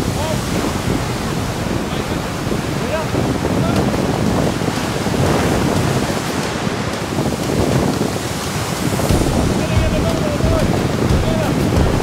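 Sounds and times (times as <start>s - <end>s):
water rushing past hull: 0.0s - 12.0s
wind buffeting microphone: 0.0s - 12.0s.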